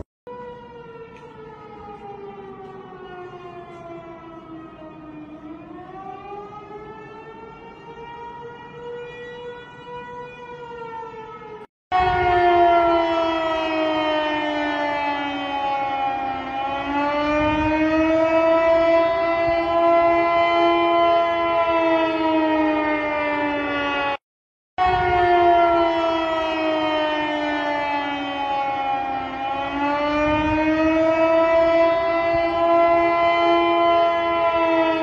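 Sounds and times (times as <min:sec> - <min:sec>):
warning siren wailing: 0:00.0 - 0:24.2, 0:24.8 - 0:35.0.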